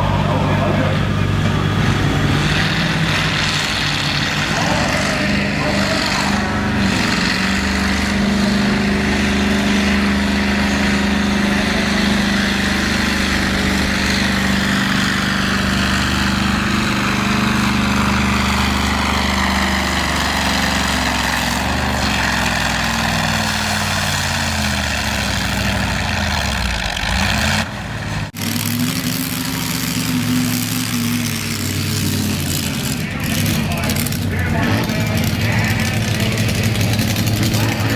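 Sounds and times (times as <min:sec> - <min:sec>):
tractor engine running hard: 0:00.0 - 0:37.9.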